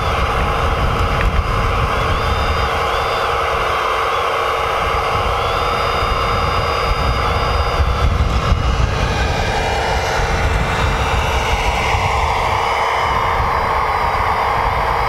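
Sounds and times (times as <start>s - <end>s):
electric motors whining: 0.0s - 15.0s
steady low rumble: 0.0s - 15.0s.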